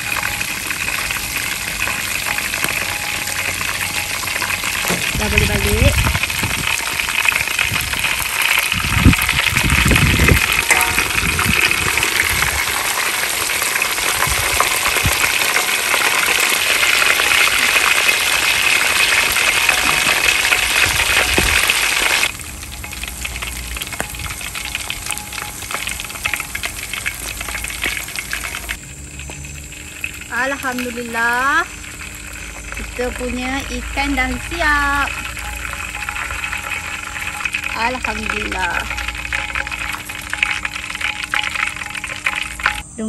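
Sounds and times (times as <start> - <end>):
fish deep-frying in hot oil: 0.0 - 42.8.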